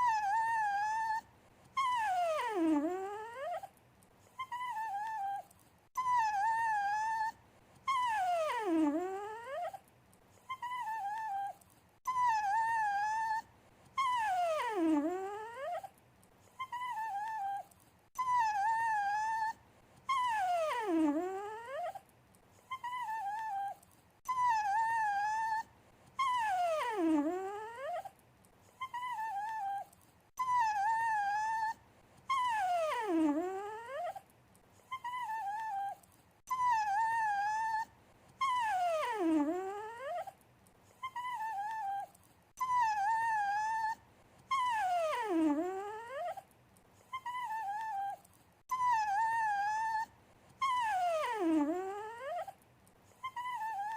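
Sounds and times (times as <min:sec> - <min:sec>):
dog whining: 0:00.0 - 0:53.9.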